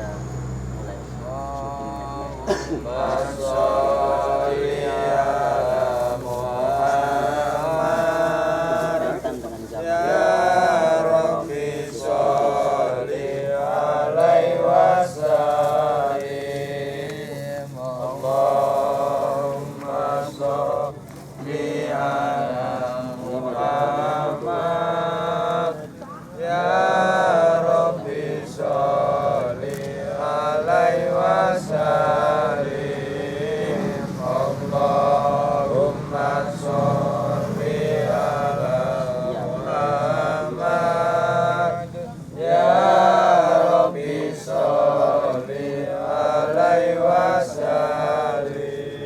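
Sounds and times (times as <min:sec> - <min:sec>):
person chanting a prayer: 0:00.0 - 0:49.0.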